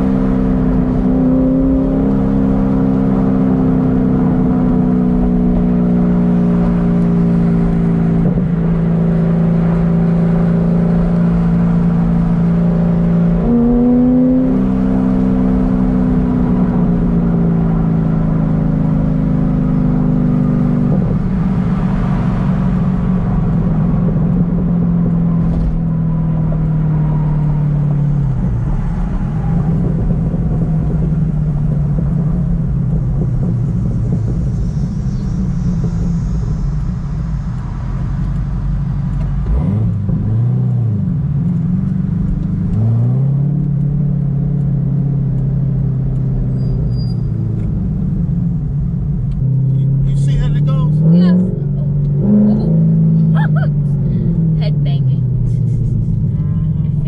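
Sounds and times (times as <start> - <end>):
car engine drone inside cabin: 0.0 - 57.0
road noise: 0.0 - 57.0.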